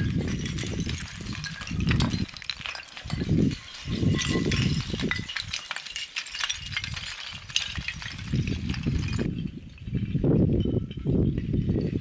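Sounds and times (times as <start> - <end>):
rocks clinking and clattering: 0.0 - 12.0.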